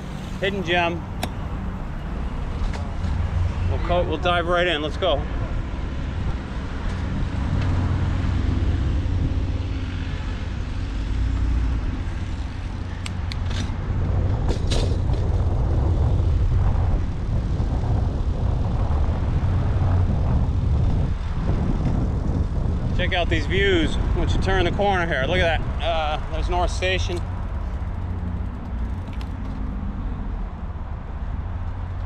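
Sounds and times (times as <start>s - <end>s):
bicycle road noise: 0.0s - 32.0s
city traffic: 0.0s - 32.0s
wind rumble on microphone: 0.0s - 32.0s.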